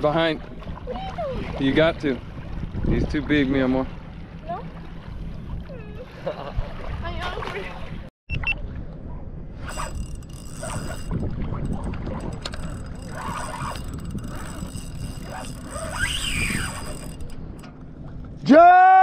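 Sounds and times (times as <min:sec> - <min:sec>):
water lapping while wading: 0:00.0 - 0:18.4
wind rumbling on microphone: 0:00.4 - 0:18.5.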